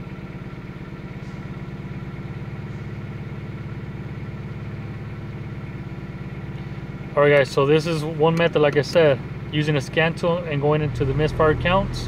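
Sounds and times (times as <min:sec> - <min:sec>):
car engine idling with misfires: 0:00.0 - 0:12.0.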